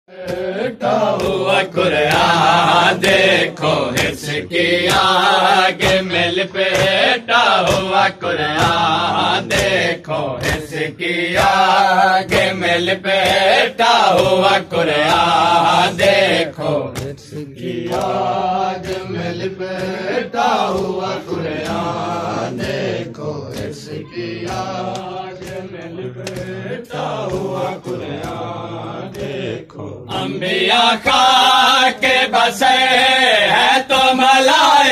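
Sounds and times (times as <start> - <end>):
men chanting a lament: 0.1 - 34.9
rhythmic chest slaps: 0.1 - 34.9.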